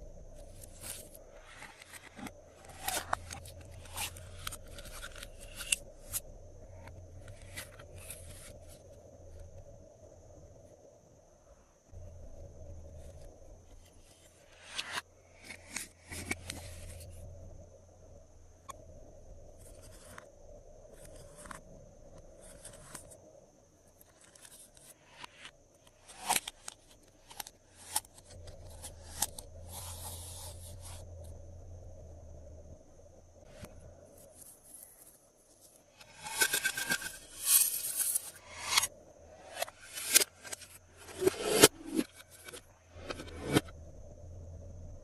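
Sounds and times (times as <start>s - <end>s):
faint steady hum: 0.0s - 26.1s, 26.7s - 45.0s.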